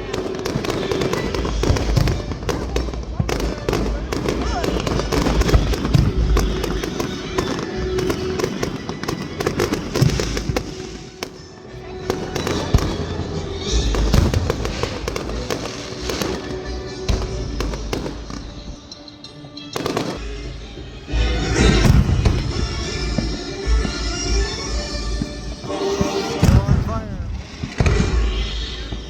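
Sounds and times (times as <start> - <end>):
fireworks crackling and popping: 0.0 - 29.0
song playing in background: 0.0 - 29.0.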